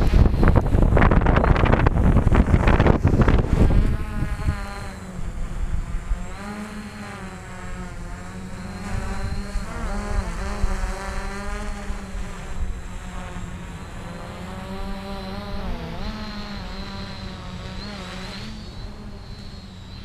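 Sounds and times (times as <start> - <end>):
quadcopter propellers buzzing: 0.0 - 20.0.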